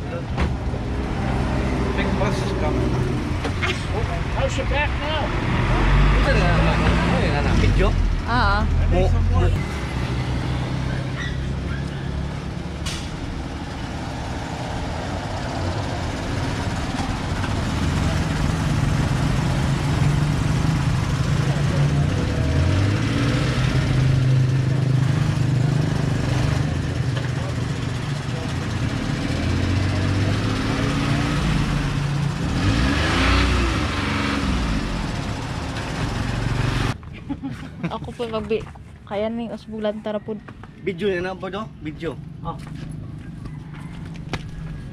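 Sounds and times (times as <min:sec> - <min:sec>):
small truck engine idling and revving: 0:00.0 - 0:44.9.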